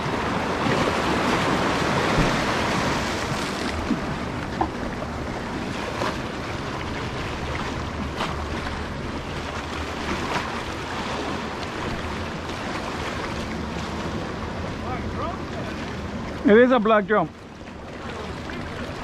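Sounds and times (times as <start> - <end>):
surf breaking against rocks: 0.0 - 16.9.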